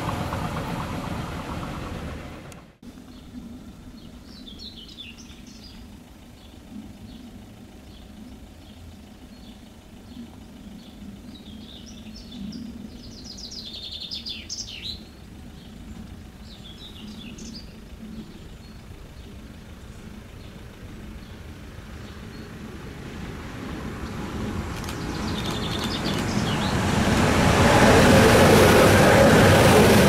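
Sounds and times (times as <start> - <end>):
songbirds chirping: 0.0 - 27.2
low steady rumble: 0.0 - 30.0.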